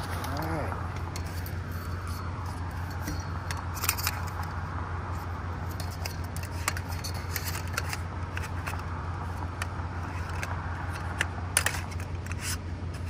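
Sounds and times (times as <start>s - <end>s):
metal poles clicking and clinking: 0.0s - 13.0s
steady low hum: 0.0s - 13.0s.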